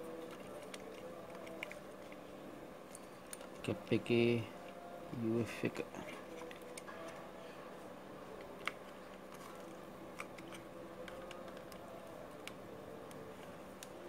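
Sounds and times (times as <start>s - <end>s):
wires rustling: 0.0s - 4.7s, 5.4s - 14.0s.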